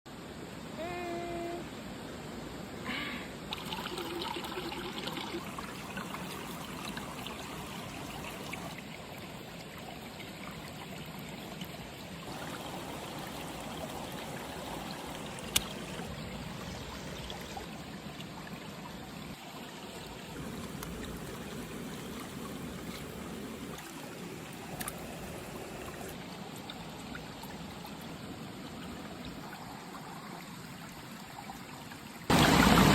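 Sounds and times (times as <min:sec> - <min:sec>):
water trickling: 0:03.4 - 0:32.9.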